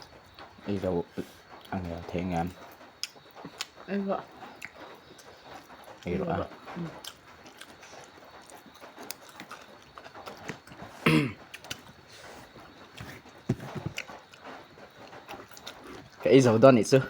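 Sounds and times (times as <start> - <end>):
smacking and chewing clicks: 0.4 - 16.4.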